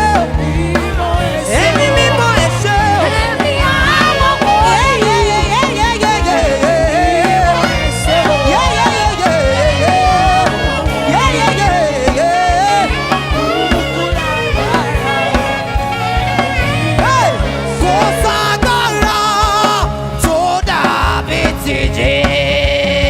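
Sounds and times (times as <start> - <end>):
band with drums and keyboard: 0.0 - 23.0
person singing: 0.0 - 23.0.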